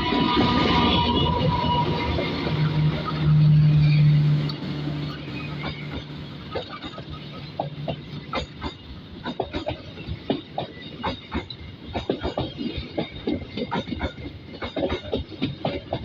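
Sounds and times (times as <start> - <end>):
train rolling rumble: 0.0 - 16.0
train wheels clattering over rail joints: 0.0 - 16.0.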